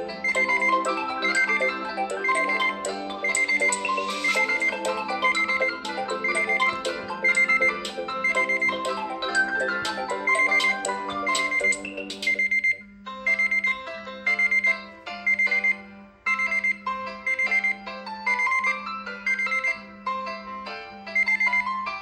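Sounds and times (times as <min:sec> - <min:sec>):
melodic electronic alarm chime: 0:00.0 - 0:19.9.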